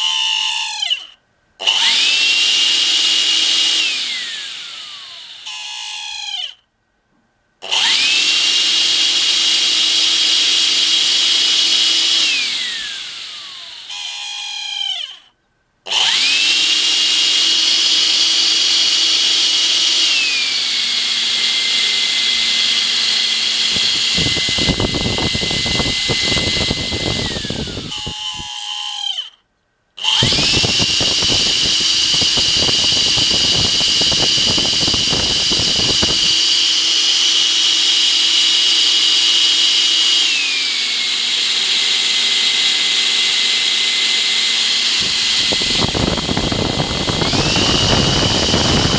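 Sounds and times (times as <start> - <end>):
vacuum motor whining: 1.6 - 6.4, 7.6 - 15.0, 15.9 - 29.2, 30.0 - 48.9.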